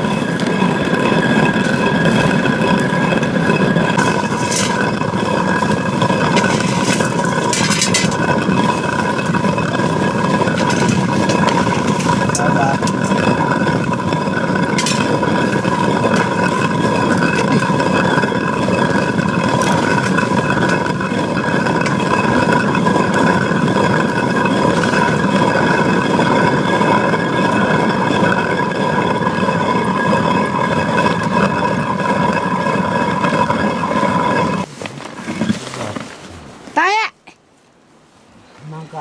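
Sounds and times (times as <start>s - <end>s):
stone quern grinding grain: 0.0s - 36.8s.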